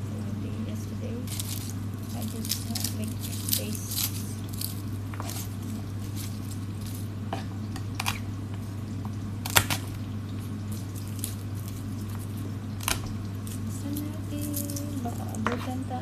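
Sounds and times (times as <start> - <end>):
steady low hum: 0.0 - 16.0
papery crackles of garlic peeling: 1.2 - 7.2, 7.9 - 16.0.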